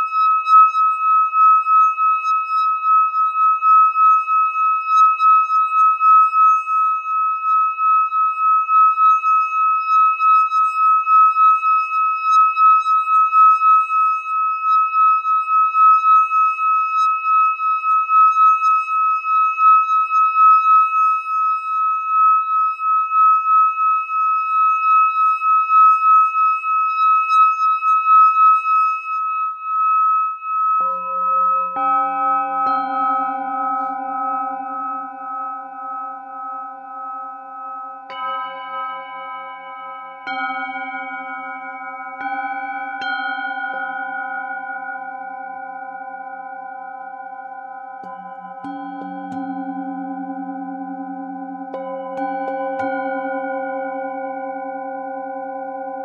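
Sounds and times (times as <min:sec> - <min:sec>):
singing bowl sustained tone: 0:00.0 - 0:56.0.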